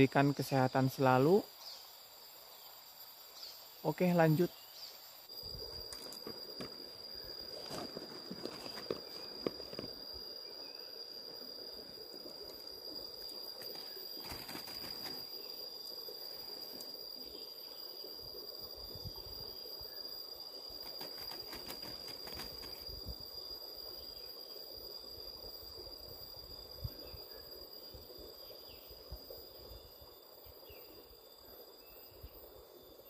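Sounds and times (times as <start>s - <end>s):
high thin insect trill: 0.0s - 32.4s.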